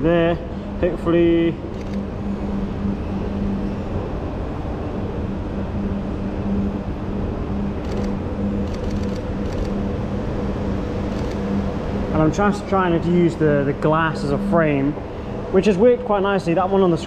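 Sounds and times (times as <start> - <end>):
building services hum and air rush: 0.0 - 17.0.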